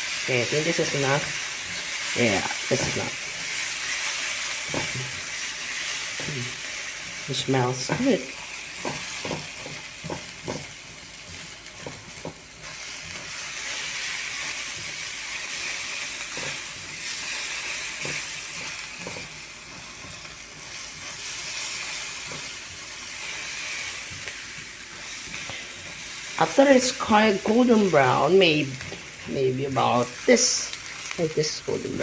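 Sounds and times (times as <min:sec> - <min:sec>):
paste sizzling in oil: 0:00.0 - 0:32.0.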